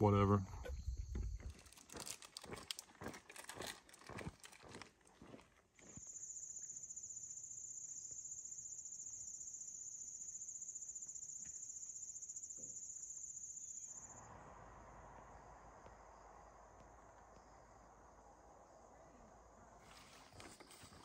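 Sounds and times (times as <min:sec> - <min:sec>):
insects trilling: 0:00.1 - 0:21.0.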